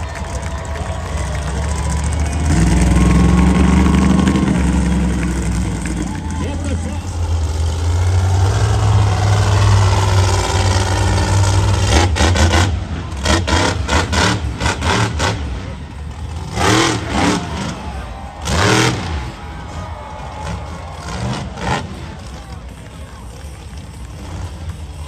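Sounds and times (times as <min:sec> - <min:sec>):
engine sharp cracks: 0:00.0 - 0:25.0
truck engine revving: 0:00.0 - 0:25.0.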